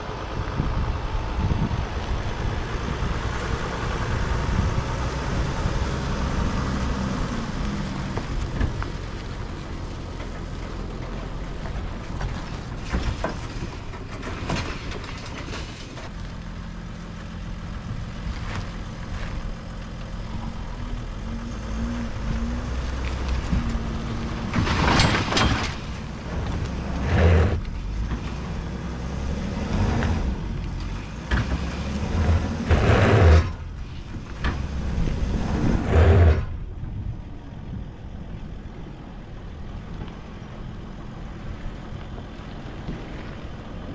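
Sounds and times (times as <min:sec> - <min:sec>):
van engine running under load: 0:00.0 - 0:43.9.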